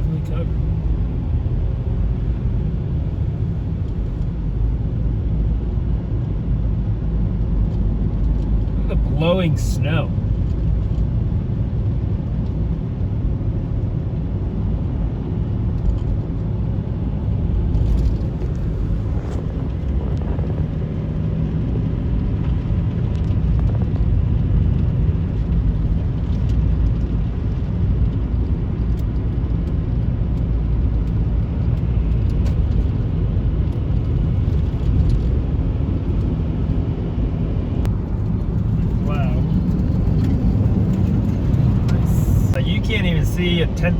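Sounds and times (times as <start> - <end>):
car engine and tyre noise: 0.0 - 43.9.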